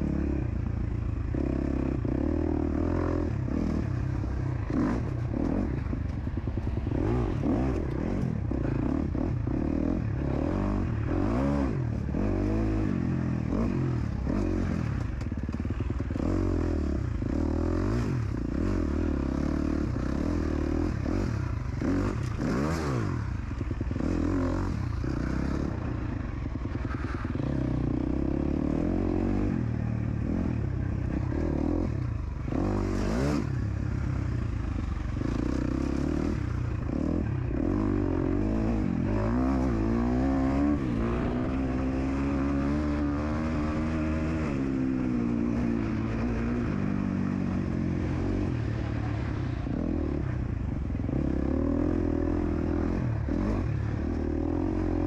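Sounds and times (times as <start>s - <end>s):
dirt bike engine revving: 1.3s - 34.1s, 34.7s - 50.4s.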